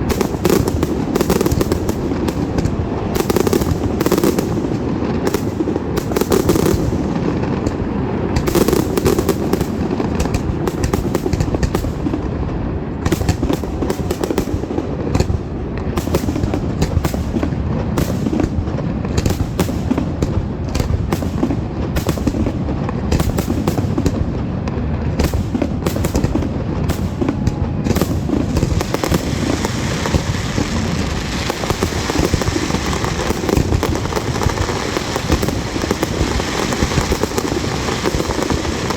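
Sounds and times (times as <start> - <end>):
fireworks cracking and popping: 0.0 - 38.9.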